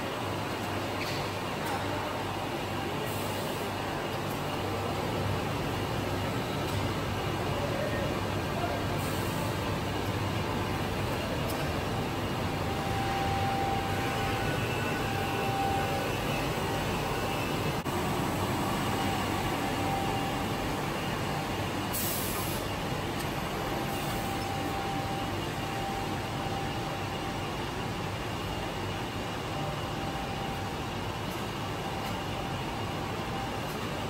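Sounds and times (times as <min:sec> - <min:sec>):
faint machine whine: 0:00.0 - 0:34.0
machine and roller conveyor humming: 0:00.0 - 0:34.0.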